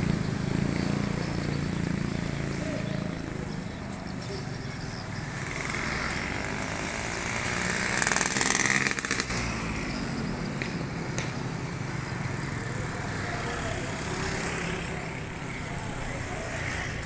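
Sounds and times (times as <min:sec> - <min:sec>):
motorcycle passing: 0:00.0 - 0:17.0
traffic hum: 0:00.0 - 0:17.0.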